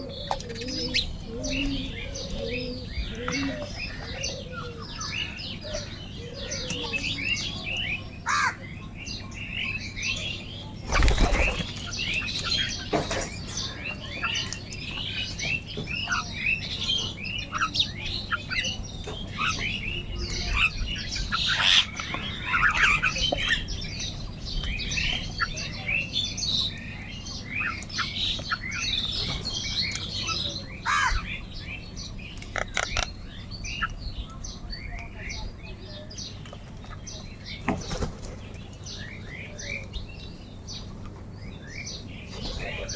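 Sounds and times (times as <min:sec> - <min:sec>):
flock of birds calling: 0:00.0 - 0:42.9.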